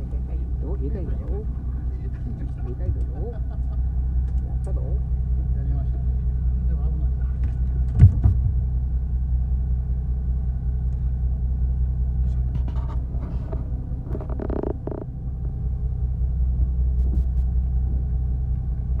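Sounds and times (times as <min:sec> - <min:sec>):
boat engine low rumble: 0:00.0 - 0:19.0.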